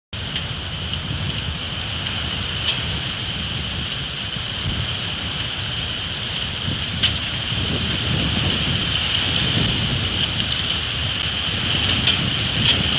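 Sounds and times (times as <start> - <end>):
strong wind gusts buffeting microphone: 0.2 - 12.9.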